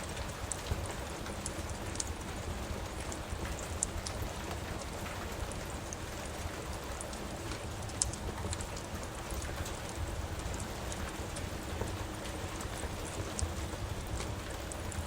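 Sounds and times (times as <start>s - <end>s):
rain hiss: 0.0s - 15.0s
wood fire popping and crackling: 0.0s - 15.0s.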